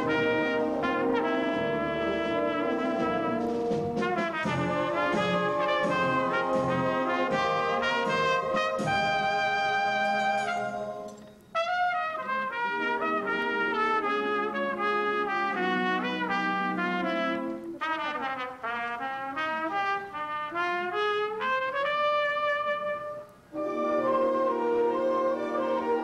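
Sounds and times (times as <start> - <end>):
orchestra accompaniment: 0.0 - 26.0
trumpet solo melody: 0.0 - 26.0.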